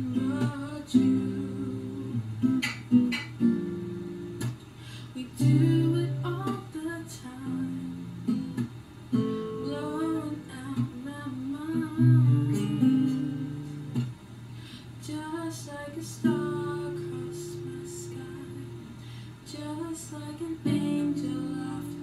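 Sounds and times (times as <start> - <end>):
woman singing softly: 0.0 - 2.4, 5.1 - 8.6, 9.2 - 14.0, 15.0 - 22.0
acoustic guitar strumming: 0.0 - 14.2, 15.3 - 18.9, 20.6 - 22.0.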